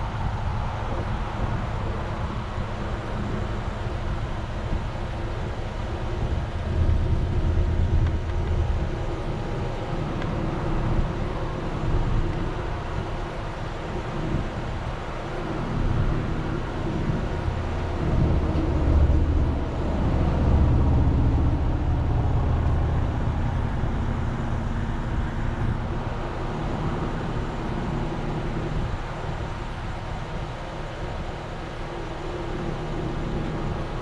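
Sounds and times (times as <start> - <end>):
car engine running inside car: 0.0 - 34.0.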